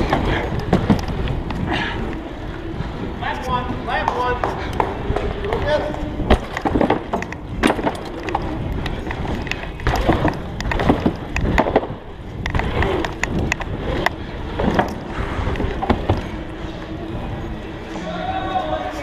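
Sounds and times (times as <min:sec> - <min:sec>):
bike knocking and rattling: 0:00.0 - 0:19.0
bike tyres rolling: 0:00.0 - 0:19.0.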